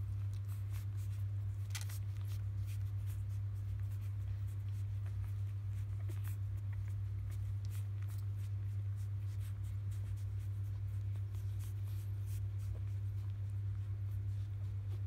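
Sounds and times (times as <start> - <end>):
puppies rustling and clicking: 0.0 - 15.0.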